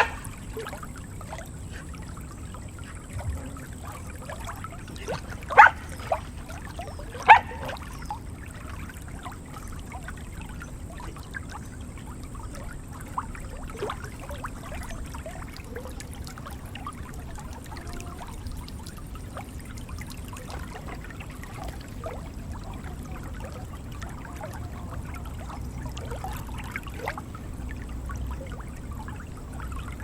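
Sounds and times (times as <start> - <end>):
small water drips: 0.0 - 30.0
water trickling and splashing: 0.0 - 30.0.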